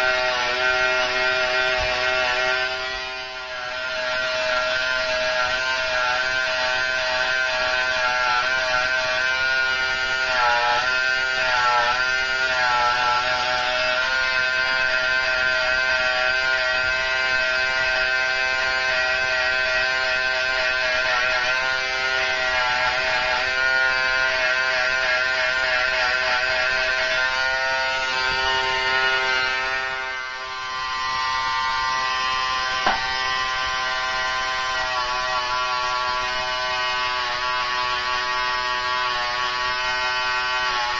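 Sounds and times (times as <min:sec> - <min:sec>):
electric hair trimmer buzzing: 0:00.0 - 0:40.9.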